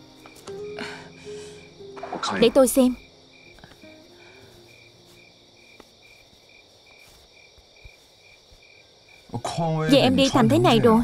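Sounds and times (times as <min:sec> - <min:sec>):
crickets chirping: 0:00.0 - 0:11.0
faint insect trill: 0:00.0 - 0:11.0.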